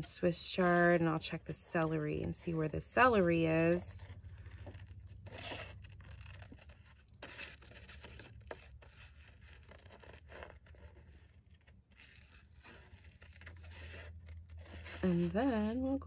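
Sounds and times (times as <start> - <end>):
paper rustling: 0.0 - 16.0
scissors cutting paper: 0.0 - 16.0.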